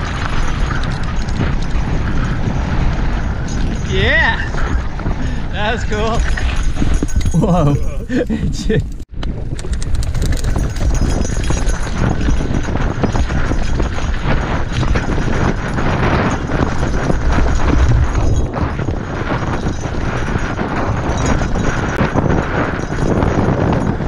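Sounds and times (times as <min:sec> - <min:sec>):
bike rattling: 0:00.0 - 0:24.0
wind buffeting microphone: 0:00.0 - 0:24.0.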